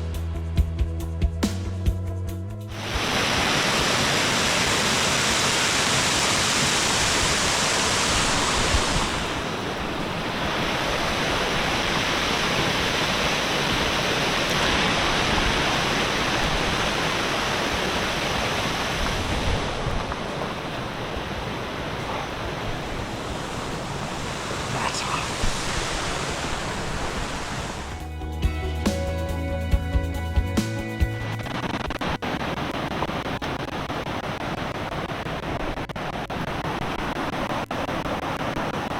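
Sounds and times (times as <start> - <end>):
waterfall roaring: 2.7 - 28.0, 31.5 - 38.9.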